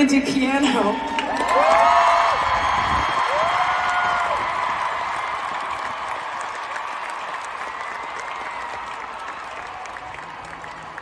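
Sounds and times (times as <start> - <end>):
crowd applauding and cheering: 1.0 - 11.0.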